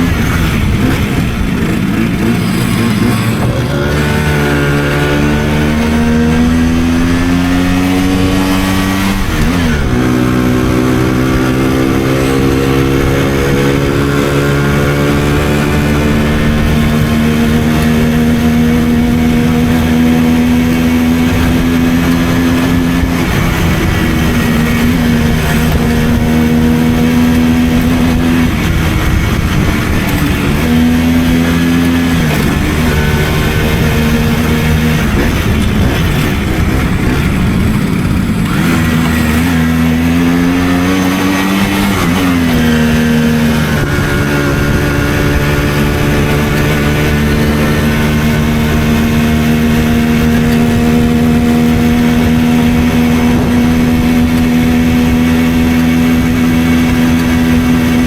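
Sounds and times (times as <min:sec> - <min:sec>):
moped engine accelerating: 0:00.0 - 0:58.0.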